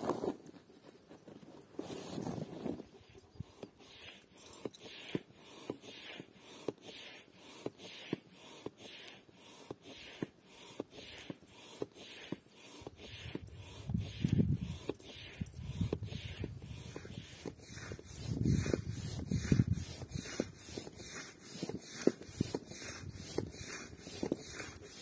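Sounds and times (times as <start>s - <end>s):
hand air pump whooshing: 1.8s - 25.0s.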